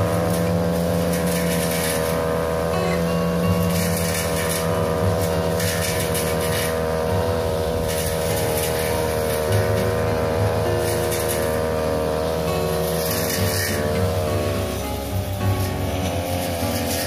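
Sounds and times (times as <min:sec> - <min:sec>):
blade swishing through leaves: 0:00.0 - 0:17.0
brush cutter engine running: 0:00.0 - 0:17.0.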